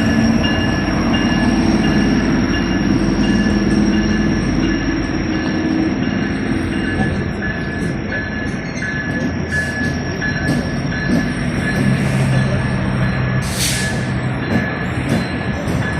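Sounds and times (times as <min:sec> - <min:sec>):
train rumbling on rails: 0:00.0 - 0:15.9.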